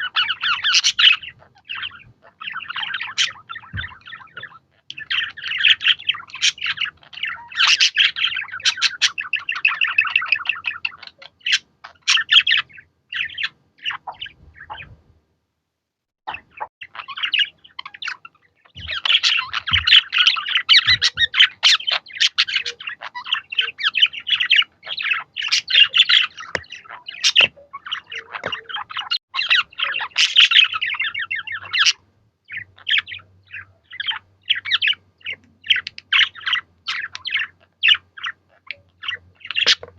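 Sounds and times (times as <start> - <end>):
budgerigars chattering: 0.0 - 15.0, 16.3 - 39.9.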